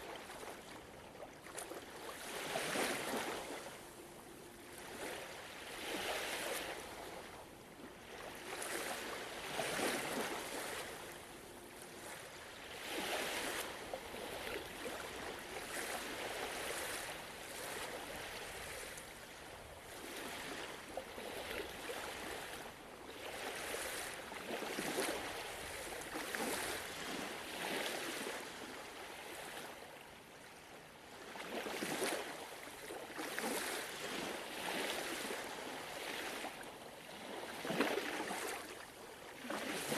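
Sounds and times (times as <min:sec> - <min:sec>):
gentle ocean waves washing in: 0:00.0 - 0:39.9.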